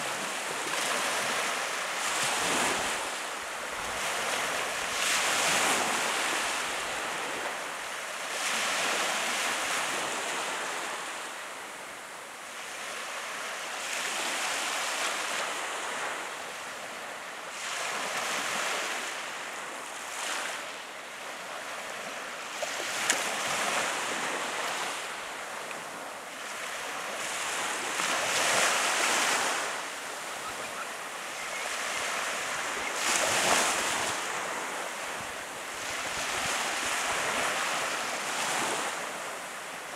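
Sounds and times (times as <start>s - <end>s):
ocean surf breaking on shore: 0.0s - 11.8s, 12.5s - 39.9s.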